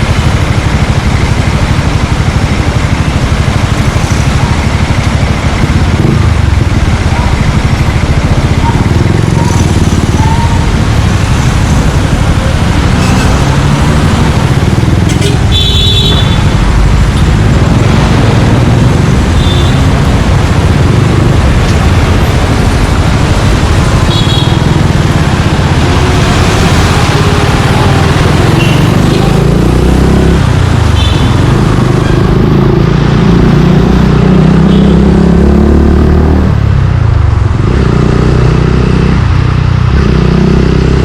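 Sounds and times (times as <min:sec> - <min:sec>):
motorcycle engine riding: 0:00.0 - 0:41.0.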